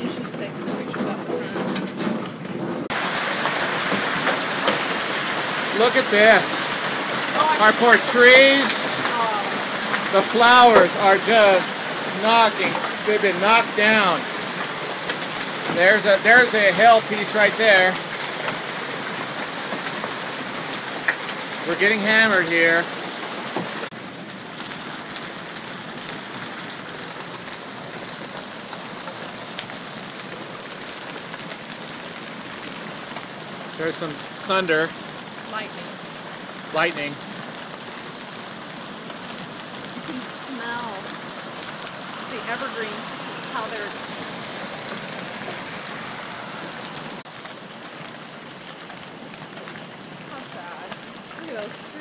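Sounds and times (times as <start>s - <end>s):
hail and rain pelting down: 0.0s - 52.0s
hailstones ticking: 0.0s - 52.0s.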